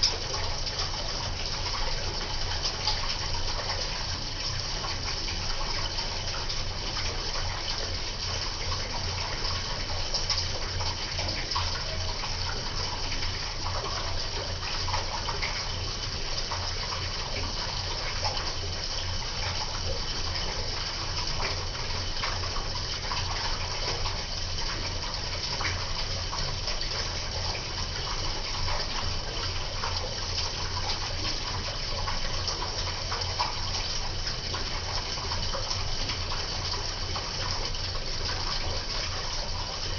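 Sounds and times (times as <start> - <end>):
low mechanical hum: 0.0 - 39.9
washing machine water rushing: 0.0 - 39.9.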